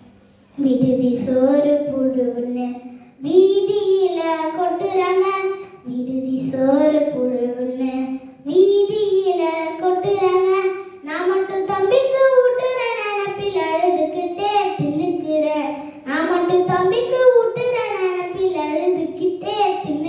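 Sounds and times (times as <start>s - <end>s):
girl singing unaccompanied: 0.6s - 20.0s.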